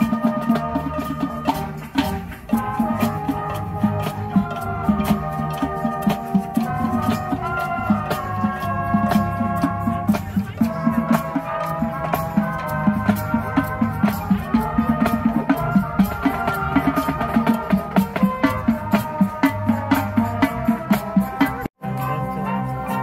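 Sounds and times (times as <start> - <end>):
brass instruments holding chords: 0.0 - 23.0
steady drumbeat: 0.0 - 23.0.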